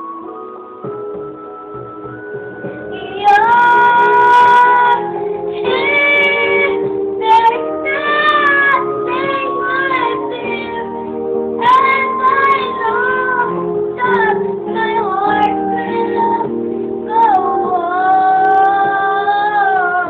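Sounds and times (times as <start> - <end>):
musical accompaniment: 0.0 - 20.0
child singing: 2.9 - 20.0.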